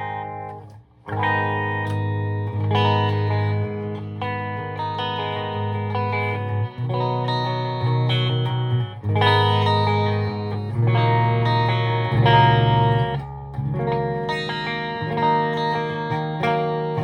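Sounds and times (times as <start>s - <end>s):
electric guitar chords ringing: 0.0s - 17.0s.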